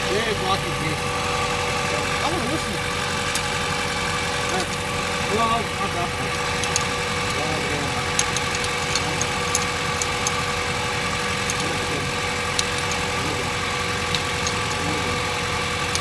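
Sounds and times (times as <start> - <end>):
car engine idling: 0.0 - 16.0
light engine ticks: 0.0 - 16.0.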